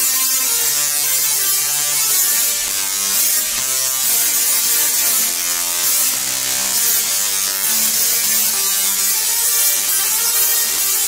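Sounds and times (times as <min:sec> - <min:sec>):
musical tesla coil buzzing: 0:00.0 - 0:11.0.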